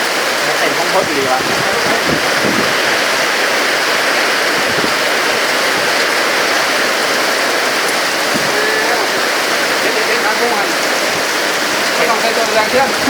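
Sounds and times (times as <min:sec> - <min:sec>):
storm wind: 0:00.0 - 0:13.0
torrential rain: 0:00.0 - 0:13.0.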